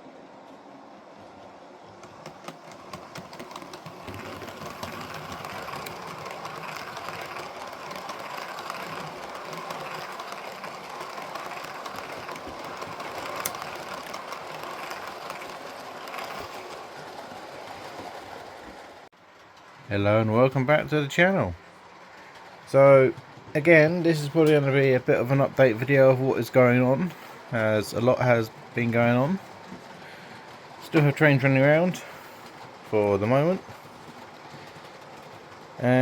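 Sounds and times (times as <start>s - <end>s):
model train clicking on track: 1.9s - 36.0s.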